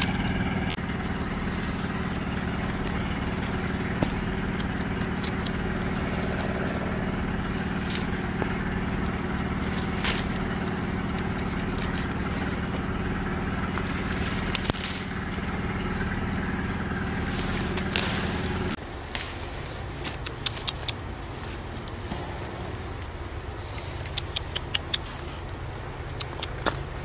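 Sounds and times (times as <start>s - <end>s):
motor hum: 0.0s - 27.0s
twigs snapping and leaves rustling: 0.0s - 27.0s.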